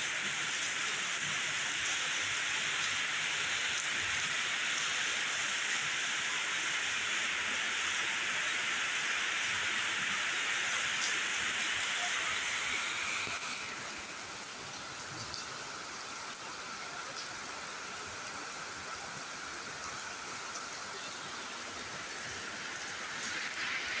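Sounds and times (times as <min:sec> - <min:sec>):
rain on pavement and trees: 0:00.0 - 0:24.0.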